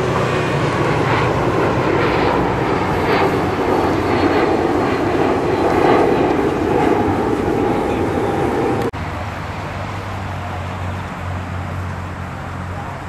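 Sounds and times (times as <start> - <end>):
jet engines rushing overhead: 0.0 - 13.0.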